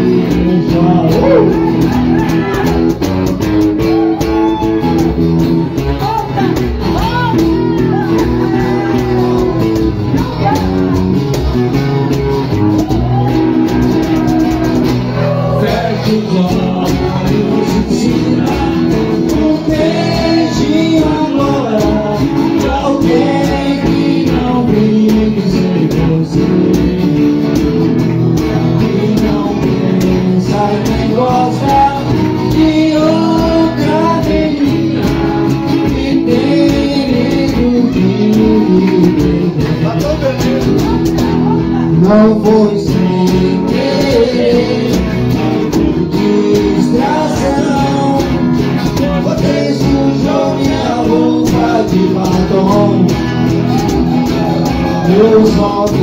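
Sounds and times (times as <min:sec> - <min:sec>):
man singing: 0:00.0 - 0:03.0, 0:03.8 - 0:11.7, 0:13.8 - 0:56.0
acoustic guitars strummed: 0:00.0 - 0:56.0.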